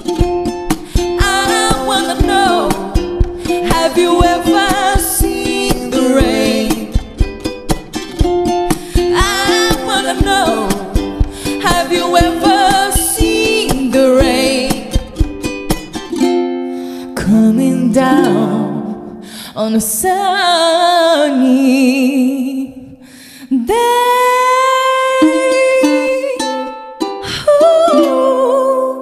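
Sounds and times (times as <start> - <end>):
ukulele strumming: 0.0 - 19.5, 24.4 - 29.0
woman singing with vibrato: 0.9 - 7.2, 8.9 - 15.2, 17.1 - 29.0.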